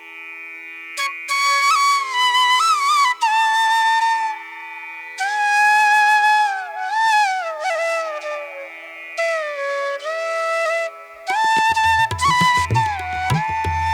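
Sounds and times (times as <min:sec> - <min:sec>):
solo flute melody: 0:01.0 - 0:13.9.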